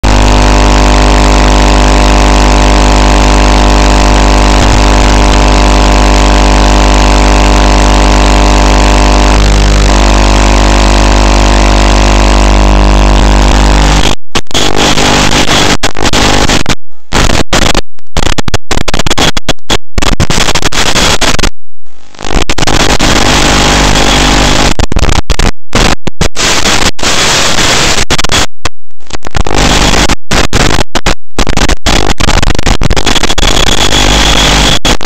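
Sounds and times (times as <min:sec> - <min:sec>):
loud static hiss: 0:00.0 - 0:28.5, 0:29.1 - 0:35.0.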